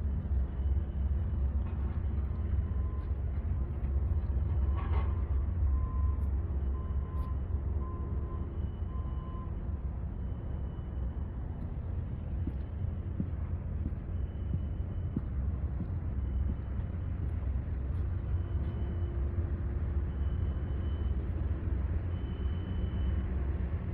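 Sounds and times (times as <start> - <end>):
diesel generator engine rumbling: 0.0 - 23.9.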